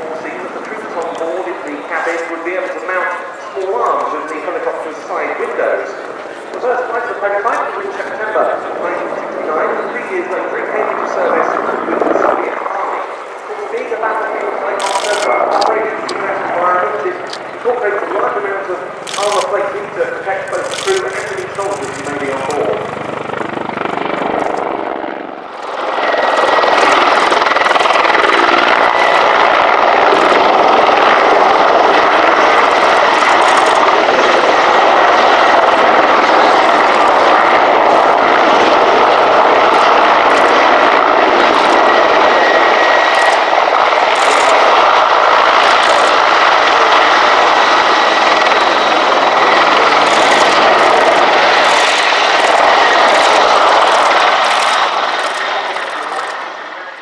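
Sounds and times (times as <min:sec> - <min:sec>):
helicopter turbines and rotor: 0:00.0 - 0:57.0
high turbine whine: 0:00.0 - 0:57.0.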